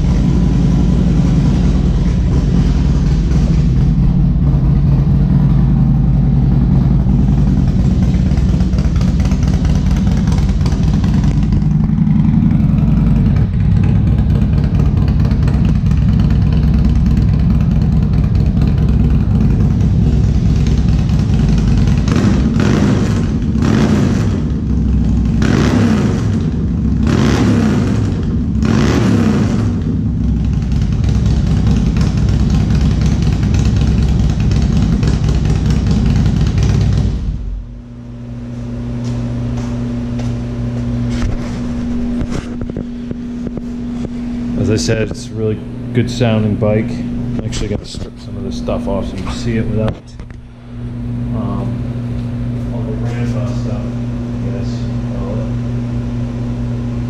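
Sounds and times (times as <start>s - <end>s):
motorcycle engine idling: 0.0s - 57.0s
motorcycle throttle blips: 0.0s - 57.0s.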